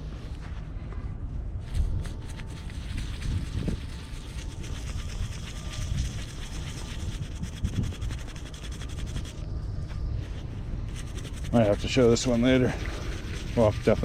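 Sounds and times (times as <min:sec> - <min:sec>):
wind rumble on microphone: 0:00.0 - 0:14.0
scratching and rubbing metal pin: 0:01.8 - 0:09.5, 0:10.2 - 0:14.0.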